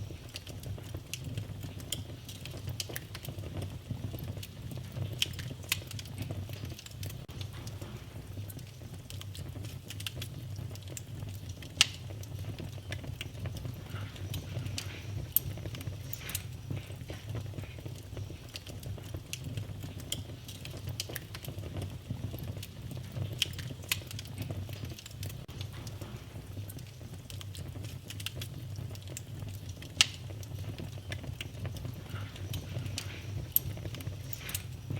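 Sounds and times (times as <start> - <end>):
sharp pops of fire: 0.0 - 34.9
wood fire crackling: 0.0 - 34.9.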